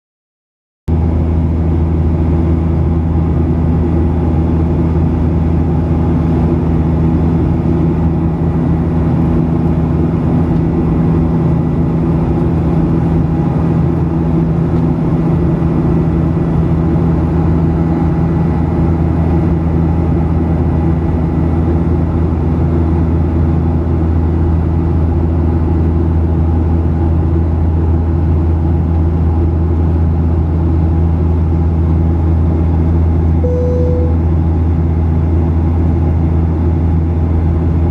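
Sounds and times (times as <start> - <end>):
airliner cabin drone: 0.9 - 37.9.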